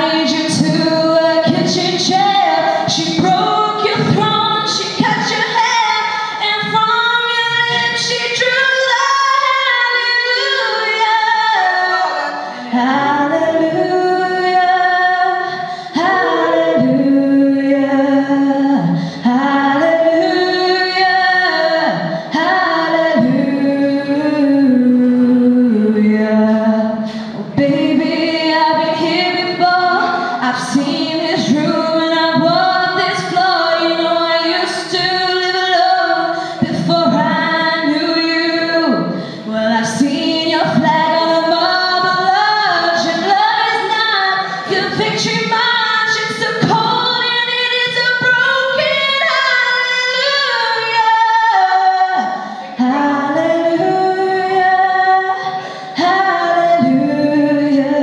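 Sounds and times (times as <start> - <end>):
woman singing into microphone: 0.0 - 58.0.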